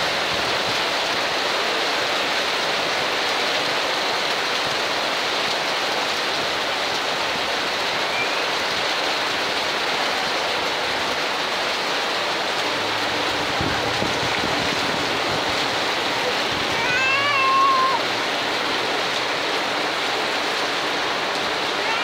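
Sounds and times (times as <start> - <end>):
floodwater rushing: 0.0 - 22.0
heavy rain downpour: 0.0 - 22.0.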